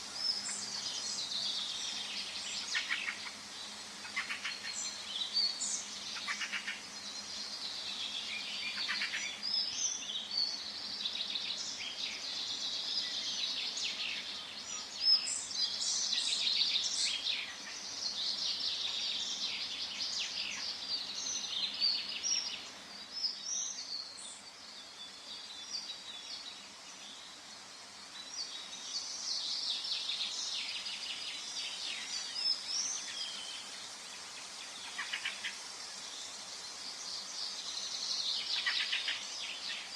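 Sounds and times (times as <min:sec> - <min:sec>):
birds chirping and twittering: 0:00.0 - 0:39.9
faint background hiss: 0:00.0 - 0:39.9.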